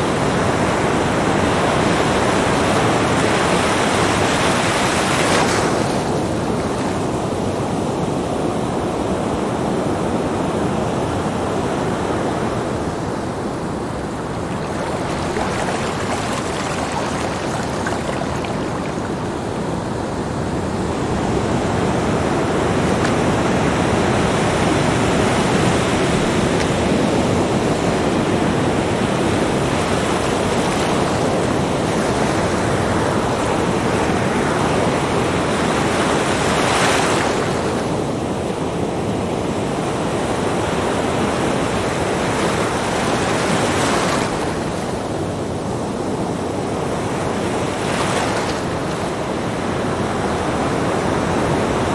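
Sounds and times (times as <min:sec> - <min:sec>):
small waves washing on beach: 0:00.0 - 0:51.9.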